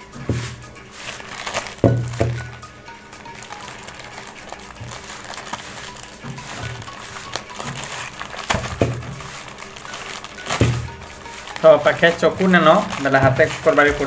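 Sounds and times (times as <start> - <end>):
background music: 0.0 - 14.0
plastic bag crinkling and tearing: 0.8 - 14.0.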